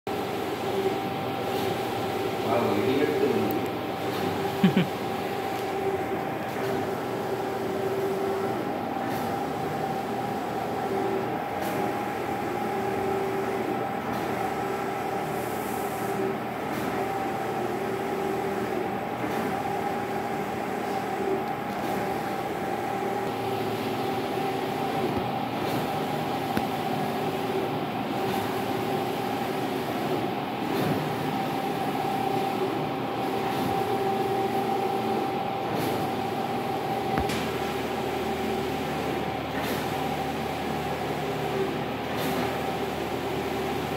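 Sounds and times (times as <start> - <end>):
printer whirring with steady tone: 0.1 - 43.9.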